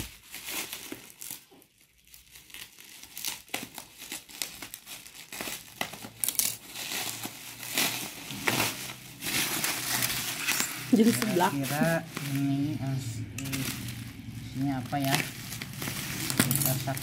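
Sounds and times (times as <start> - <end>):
scissors cutting plastic: 0.0 - 12.6, 13.2 - 17.0
plastic packaging crinkling: 0.0 - 17.0.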